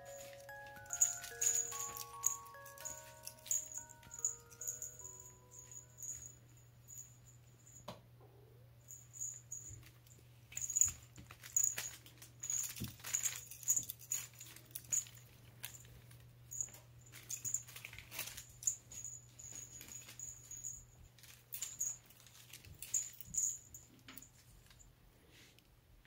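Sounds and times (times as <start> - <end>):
small bell jingling: 0.0 - 7.9, 8.8 - 24.4.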